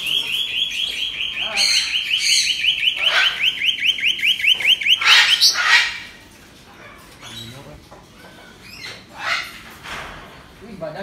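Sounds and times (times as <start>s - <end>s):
loud bird calls: 0.0s - 6.3s, 7.1s - 10.1s
caged birds chirping: 0.0s - 11.0s.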